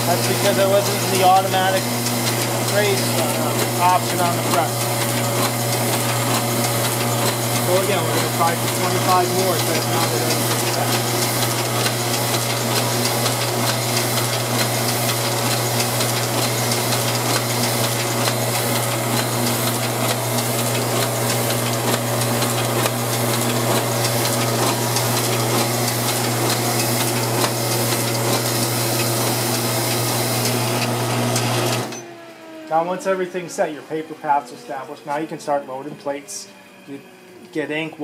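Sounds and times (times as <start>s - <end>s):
press mechanical clatter: 0.0s - 32.1s
offset press motor hum: 0.0s - 33.5s.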